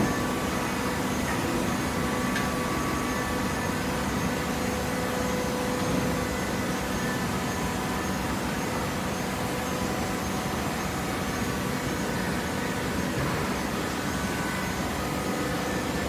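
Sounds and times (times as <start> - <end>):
hydraulic machine drone: 0.0 - 16.0.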